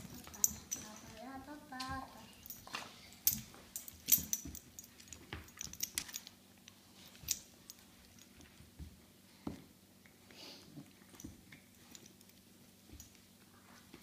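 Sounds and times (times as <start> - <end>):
puppies scuffling clicks and knocks: 0.0 - 9.6, 10.8 - 14.0.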